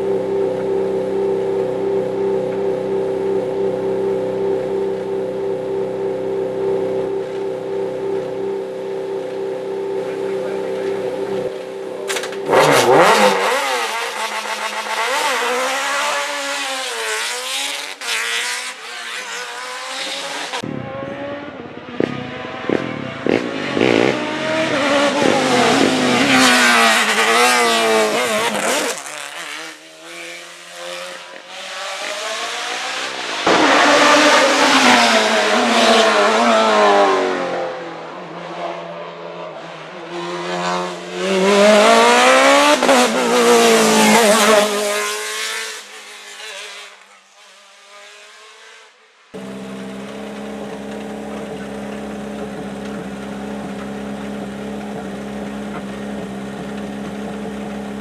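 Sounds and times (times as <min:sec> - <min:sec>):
race car engines revving: 0:00.0 - 0:47.0, 0:47.8 - 0:58.0.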